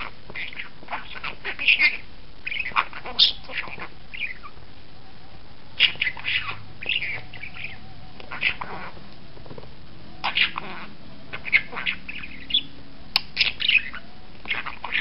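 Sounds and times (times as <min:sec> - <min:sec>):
budgerigar squawking and chirping: 0:00.0 - 0:04.6, 0:05.8 - 0:09.0, 0:10.2 - 0:15.0.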